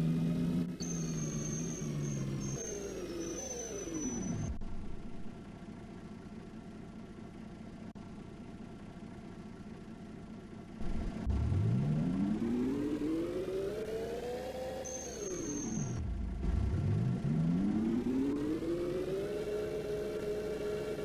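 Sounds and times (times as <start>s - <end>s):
bus drive whine: 0.0s - 21.0s
steady bus hum: 0.0s - 21.0s.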